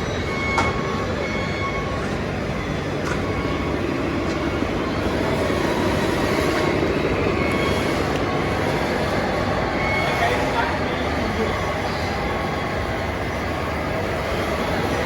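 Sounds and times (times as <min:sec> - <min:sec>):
model trucks rumbling and whirring: 0:00.0 - 0:15.0.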